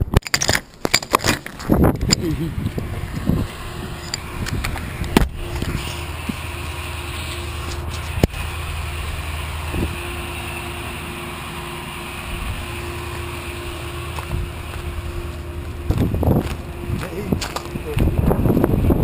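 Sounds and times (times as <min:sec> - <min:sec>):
faint steady hum: 0:00.0 - 0:19.0
low mechanical rumble: 0:00.0 - 0:19.0.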